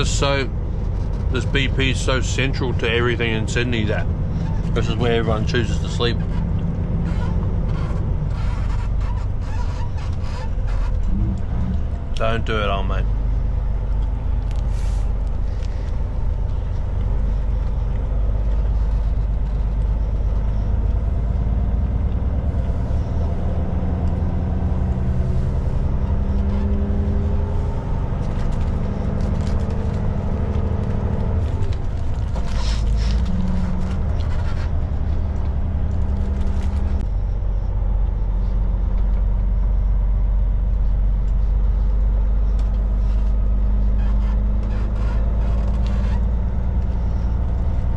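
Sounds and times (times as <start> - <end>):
truck diesel engine running: 0.0 - 47.9.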